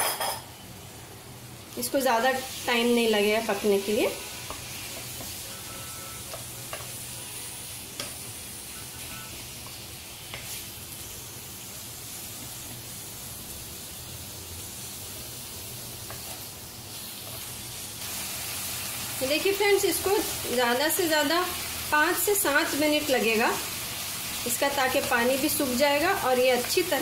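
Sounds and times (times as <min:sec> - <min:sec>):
chicken sizzling in a wok: 0:00.2 - 0:27.0.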